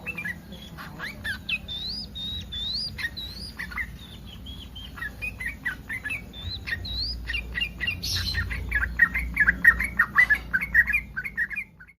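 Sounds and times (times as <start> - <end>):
bulbul singing bubbly chatter: 0.0 - 12.0.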